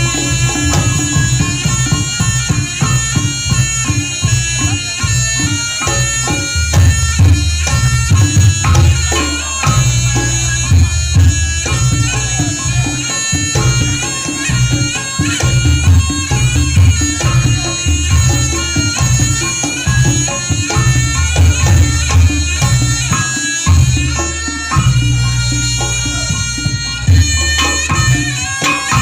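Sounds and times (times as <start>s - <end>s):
hand drums beating: 0.0s - 29.0s
nasal shawm melody: 0.0s - 29.0s.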